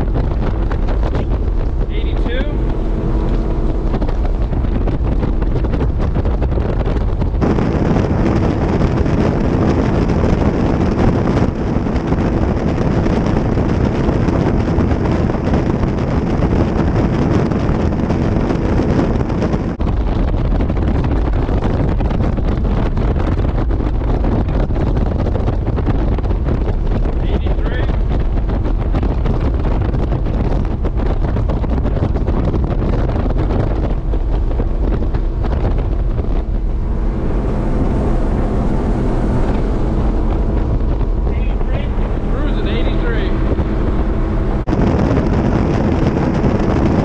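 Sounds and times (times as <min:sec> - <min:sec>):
powerboat engines droning: 0:00.0 - 0:47.0
wind buffeting microphone: 0:00.0 - 0:47.0.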